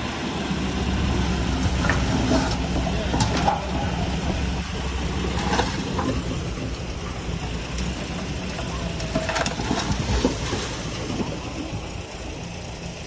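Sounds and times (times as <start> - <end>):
bulldozer diesel engine running: 0.0 - 13.0
tracks clanking and rattling: 0.0 - 13.0.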